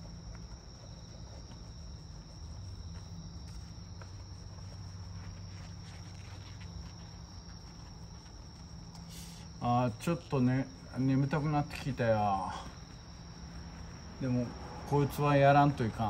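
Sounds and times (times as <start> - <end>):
insects calling high-pitched: 0.0 - 16.0.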